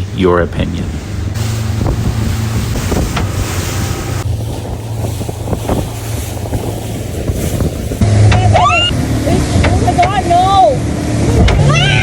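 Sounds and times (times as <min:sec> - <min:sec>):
motorboat engine droning: 0:00.0 - 0:12.0
wind buffeting microphone: 0:00.0 - 0:12.0
water slapping against hull: 0:00.8 - 0:12.0.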